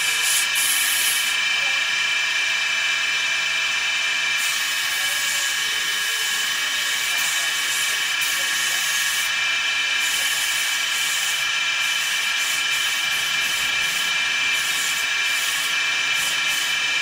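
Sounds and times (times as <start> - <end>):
woodworking machine whining: 0.0 - 17.0.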